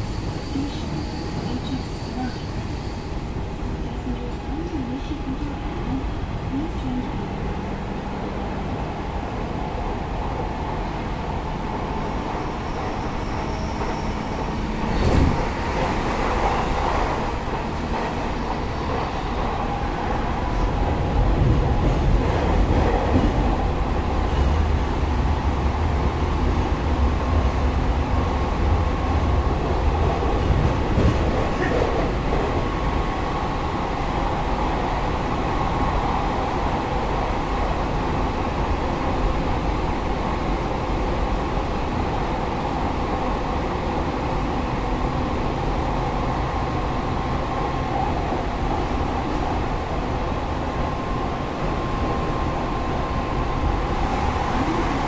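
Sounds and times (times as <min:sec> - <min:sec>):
train wheels and motors rumbling: 0:00.0 - 0:55.0.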